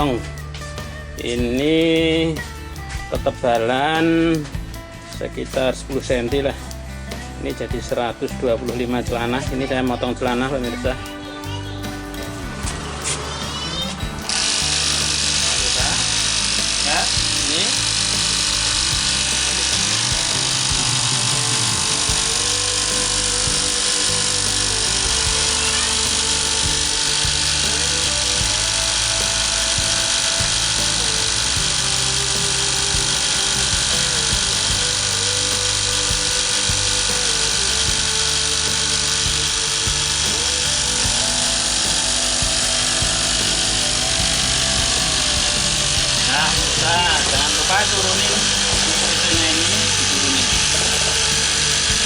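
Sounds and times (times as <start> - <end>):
background music with melody and bass: 0.0 - 52.0
cloth cutting machine running: 9.4 - 52.0.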